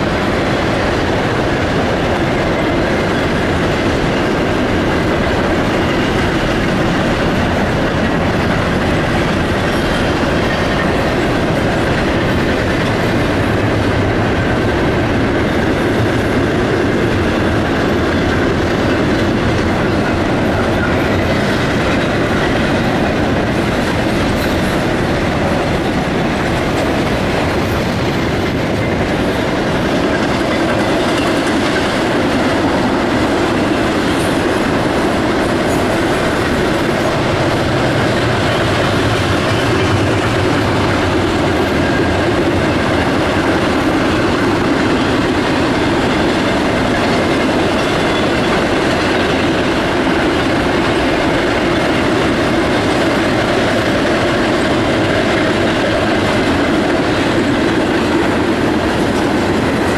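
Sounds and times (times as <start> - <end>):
freight train wheels on rail: 0.0 - 59.9.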